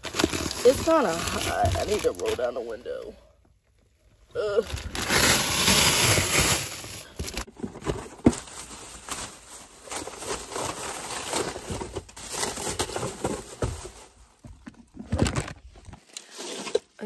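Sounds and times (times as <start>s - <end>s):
plastic bag rustling: 0.0s - 3.0s, 4.6s - 16.8s.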